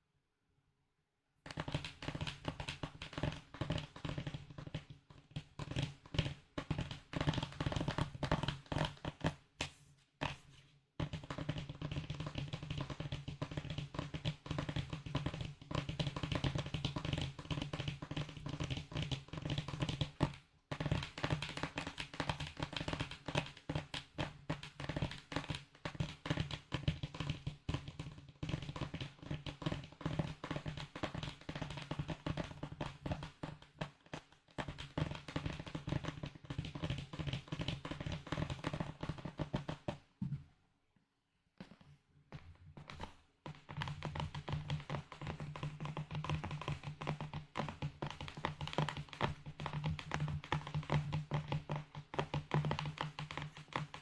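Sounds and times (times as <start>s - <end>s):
rapid tapping on small object: 1.5s - 10.4s, 11.0s - 40.1s, 42.8s - 54.0s.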